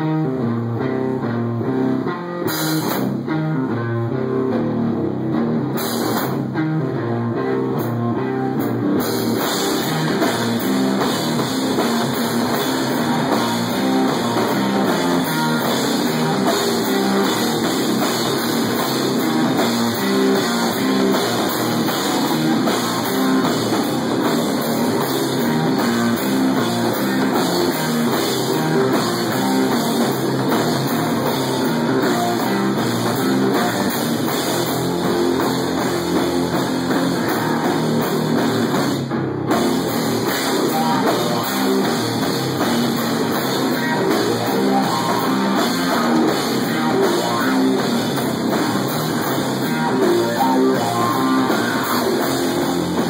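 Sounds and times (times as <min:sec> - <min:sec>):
drum kit: 0:00.0 - 0:53.0
electric guitar: 0:00.0 - 0:53.0.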